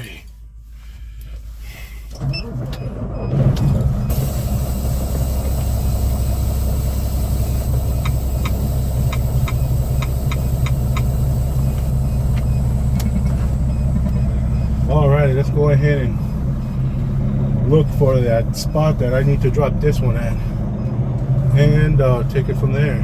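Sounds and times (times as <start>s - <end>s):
truck diesel engine running: 2.2s - 23.0s.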